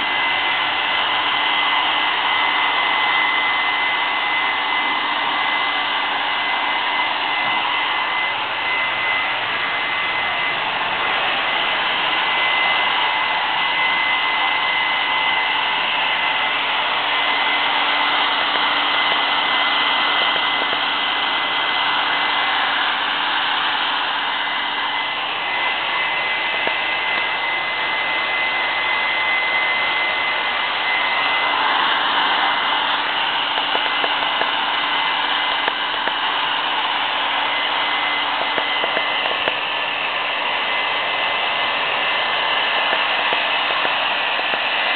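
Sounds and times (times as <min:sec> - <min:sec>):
hair dryer blowing: 0:00.0 - 0:44.9.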